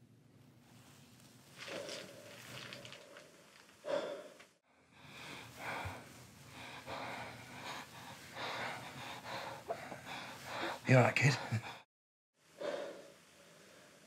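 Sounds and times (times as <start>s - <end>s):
person breathing hard and gasping: 1.6s - 11.9s, 12.6s - 14.0s.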